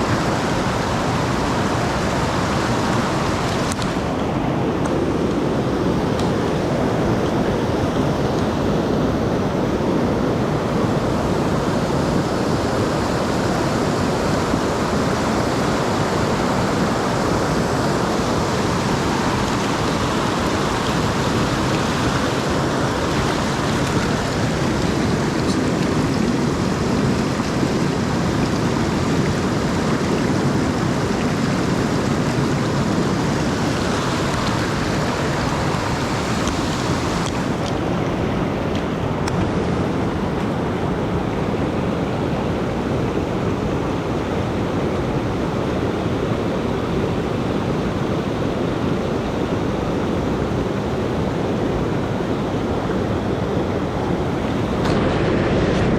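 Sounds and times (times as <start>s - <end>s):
rushing mountain stream: 0.0s - 55.9s.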